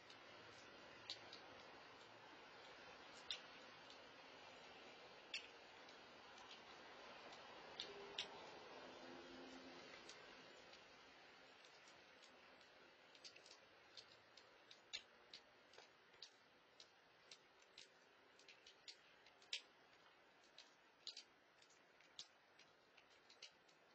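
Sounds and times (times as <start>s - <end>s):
cats chewing: 0.0s - 23.9s
low hiss: 0.0s - 23.9s.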